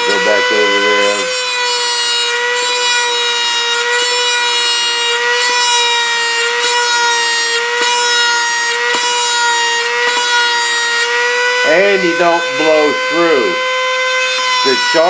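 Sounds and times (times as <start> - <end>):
rotary tool high whine: 0.0 - 15.0.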